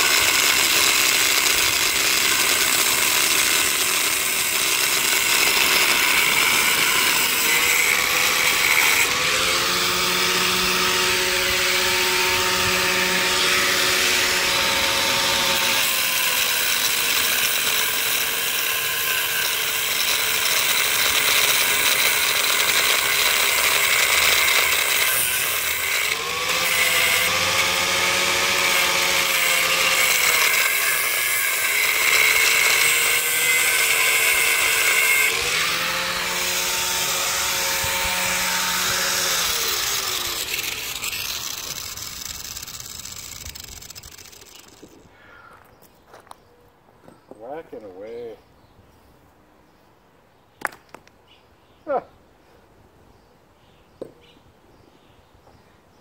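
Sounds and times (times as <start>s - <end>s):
power tool grinding metal: 0.0s - 45.1s.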